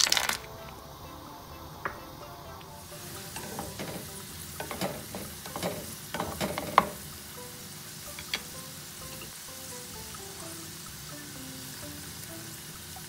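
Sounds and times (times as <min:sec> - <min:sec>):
carrots sizzling in oil: 0:00.0 - 0:13.0.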